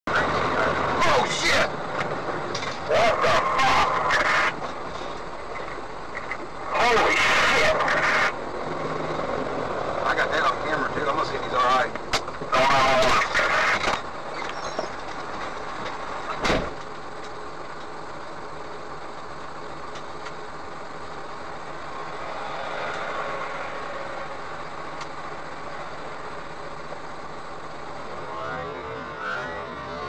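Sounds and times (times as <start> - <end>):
vehicle running from cabin: 0.1 - 30.0.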